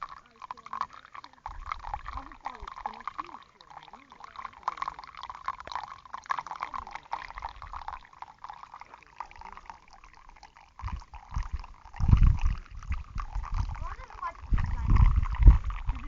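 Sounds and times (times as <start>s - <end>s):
splashing running water: 0.0s - 16.0s.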